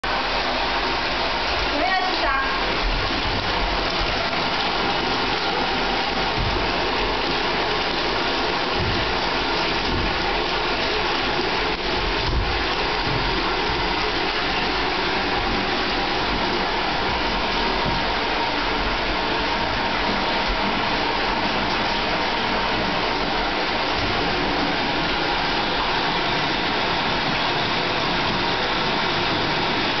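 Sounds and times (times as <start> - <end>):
tap water running into bathtub: 0.0 - 30.0.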